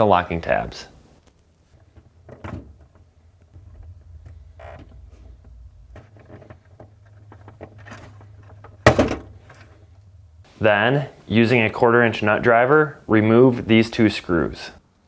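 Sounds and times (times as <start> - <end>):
steady low hum: 0.8 - 13.8.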